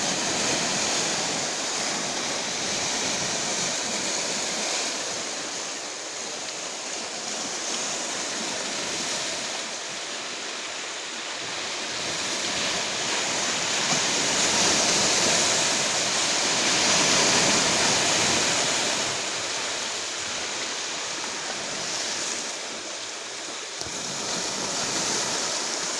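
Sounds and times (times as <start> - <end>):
surf breaking on shore: 0.0 - 25.9.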